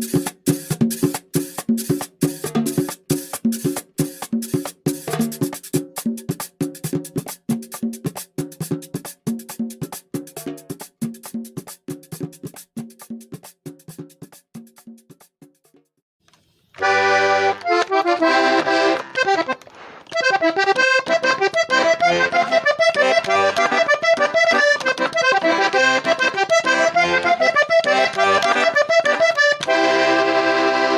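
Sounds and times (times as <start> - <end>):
accordion playing: 0.0 - 13.6, 16.8 - 30.9.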